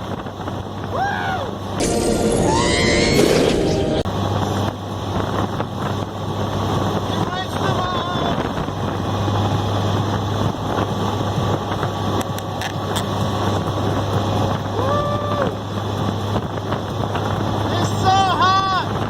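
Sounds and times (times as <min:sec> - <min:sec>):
engine hum: 0:00.0 - 0:19.0
wind and road noise: 0:00.0 - 0:19.0.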